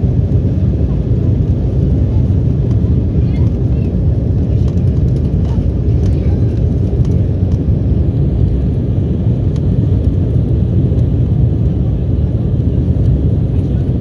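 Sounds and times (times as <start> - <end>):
jet engines rumbling in cabin: 0.0 - 14.0.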